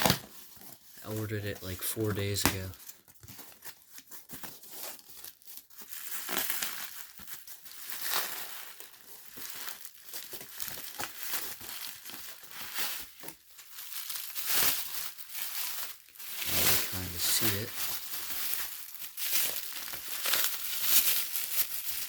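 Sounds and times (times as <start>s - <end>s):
packaging crinkling and rustling: 0.0s - 22.0s
packaging tearing: 2.4s - 22.0s.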